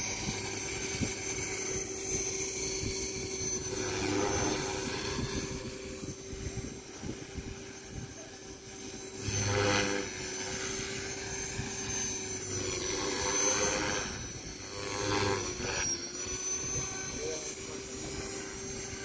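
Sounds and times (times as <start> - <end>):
high wavering motor whine: 0.0 - 19.0
model helicopter rotor drone: 0.0 - 19.0.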